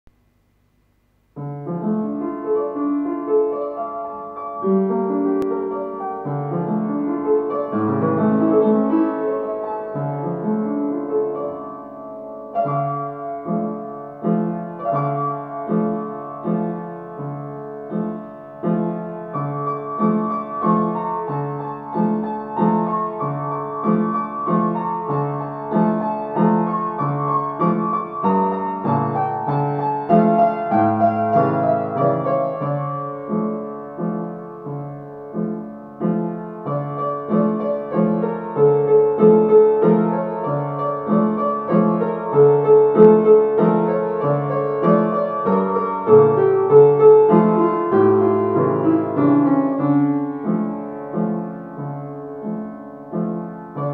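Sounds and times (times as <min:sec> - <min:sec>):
solo piano: 0:00.0 - 0:53.9.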